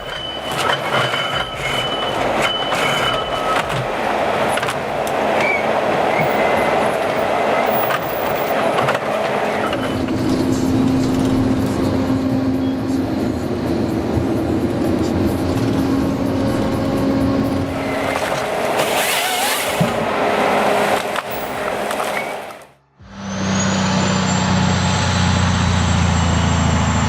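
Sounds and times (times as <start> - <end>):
heavy machinery engine running: 0.0 - 27.0.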